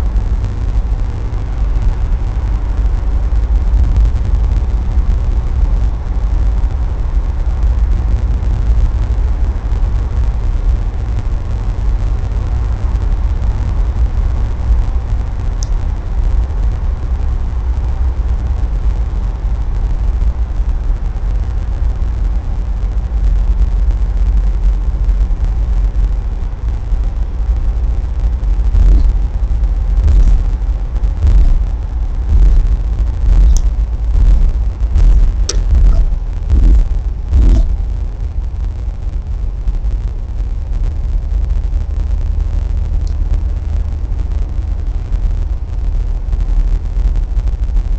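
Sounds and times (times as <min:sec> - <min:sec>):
car driving on highway: 0:00.0 - 0:42.4.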